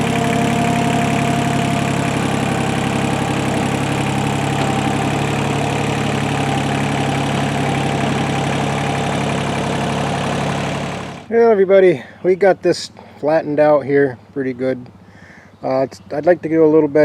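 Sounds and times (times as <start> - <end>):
tractor engine running steadily: 0.0 - 16.9.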